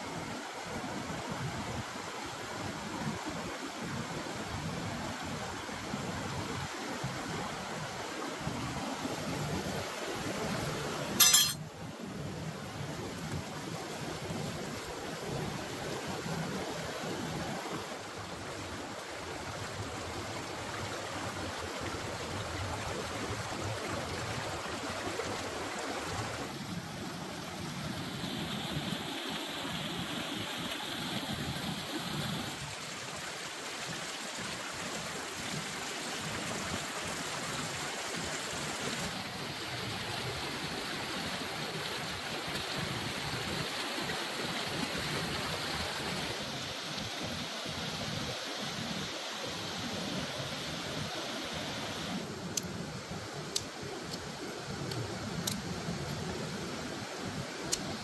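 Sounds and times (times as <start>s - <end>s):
stream rushing over stones: 0.0s - 58.0s.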